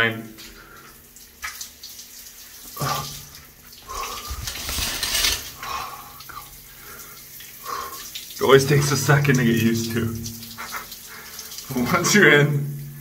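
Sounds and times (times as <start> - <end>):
shower spray running: 1.4 - 13.0.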